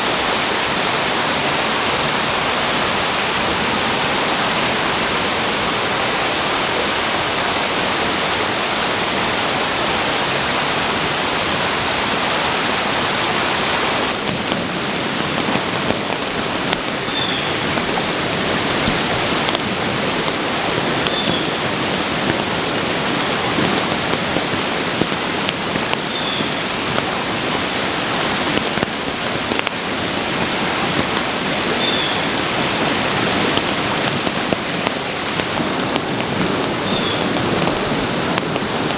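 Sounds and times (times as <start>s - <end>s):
rain-like patter: 0.0s - 38.9s.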